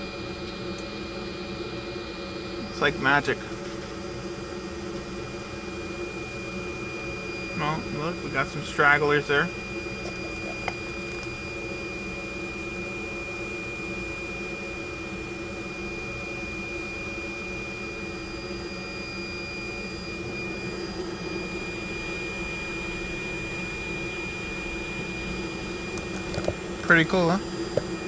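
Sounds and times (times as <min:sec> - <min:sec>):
high whine: 0:00.0 - 0:28.0
hot-air blower whirring: 0:00.0 - 0:28.0.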